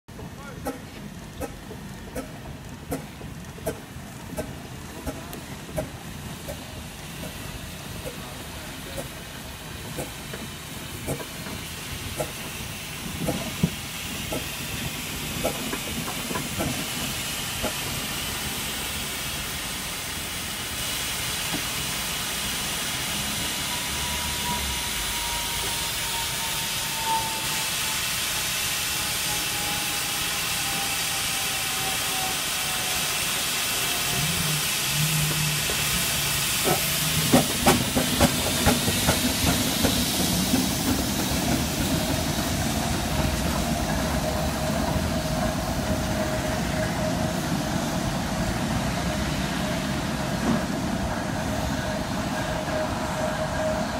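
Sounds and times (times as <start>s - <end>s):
steam engine hissing: 0.2s - 53.9s
steam exhaust chuffs: 0.6s - 53.9s.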